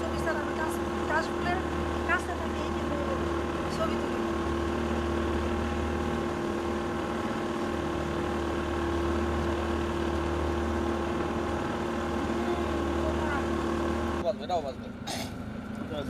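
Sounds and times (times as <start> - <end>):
water rushing along hull: 0.0 - 14.3
motorboat engine running: 0.0 - 16.0.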